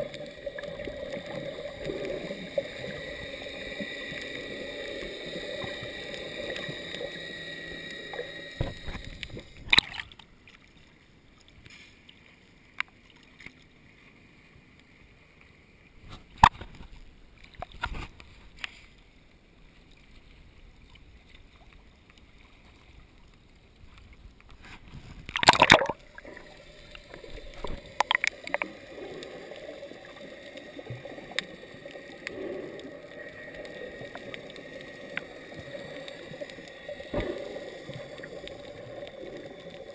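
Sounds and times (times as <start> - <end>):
underwater hum: 0.0 - 13.0, 13.7 - 39.9.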